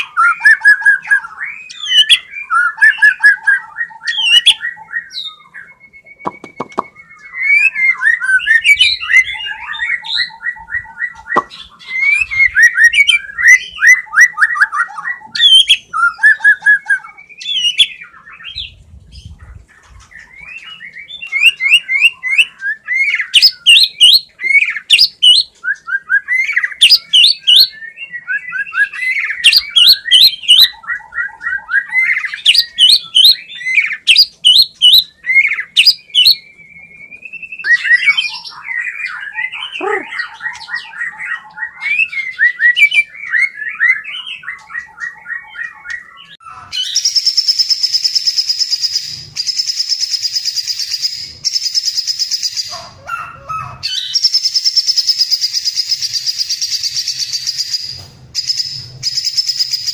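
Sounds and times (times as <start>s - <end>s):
songbird singing trills and whistles: 0.0s - 59.9s.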